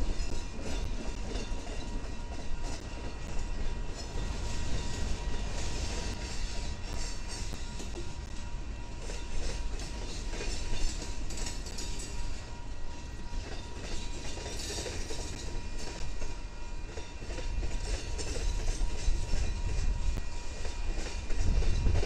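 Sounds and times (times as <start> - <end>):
diesel locomotives passing: 0.0 - 22.0
freight cars rolling on rails: 0.0 - 22.0.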